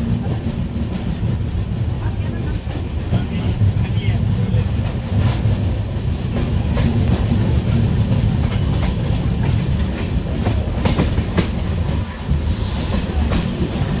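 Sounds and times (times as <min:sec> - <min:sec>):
train rumbling: 0:00.0 - 0:14.0
train wheels clacking over rail joints: 0:00.0 - 0:14.0.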